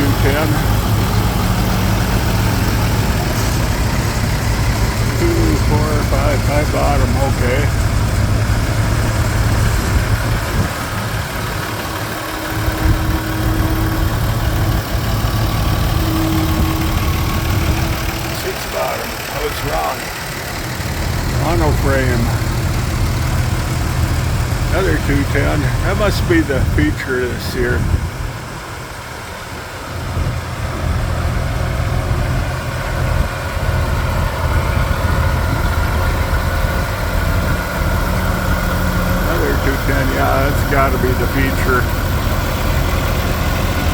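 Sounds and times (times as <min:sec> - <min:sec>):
steady whine: 0:00.0 - 0:43.9
tractor engine idling: 0:00.0 - 0:43.9.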